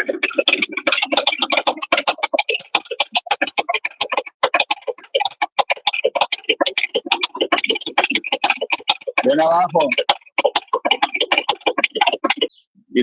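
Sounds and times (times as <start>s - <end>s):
compressor ticking clatter: 0.0s - 12.6s.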